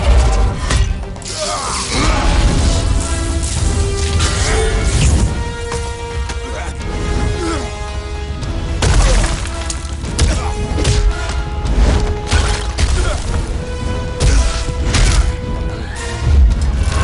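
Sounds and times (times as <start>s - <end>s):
orchestral score: 0.0s - 17.0s.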